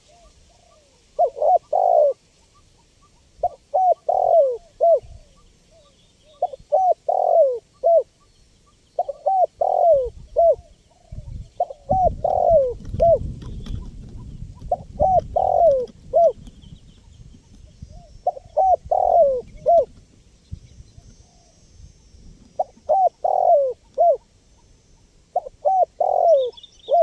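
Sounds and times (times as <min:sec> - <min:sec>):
dove cooing: 0:00.0 - 0:08.2, 0:09.0 - 0:20.0, 0:22.4 - 0:24.7, 0:25.3 - 0:27.0.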